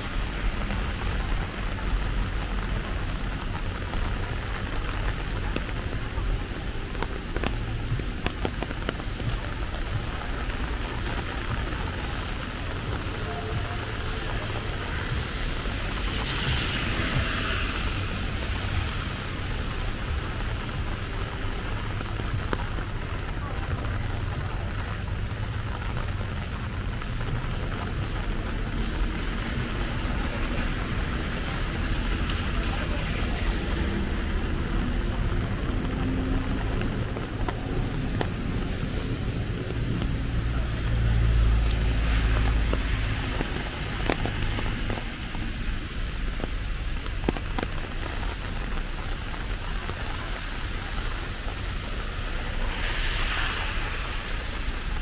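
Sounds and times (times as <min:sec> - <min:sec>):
low rumble: 0:00.0 - 0:55.0
steady rain on umbrella: 0:00.0 - 0:55.0.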